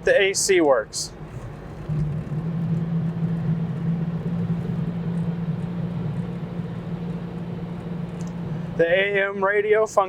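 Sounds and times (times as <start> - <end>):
low drone inside a car: 0.0 - 10.0.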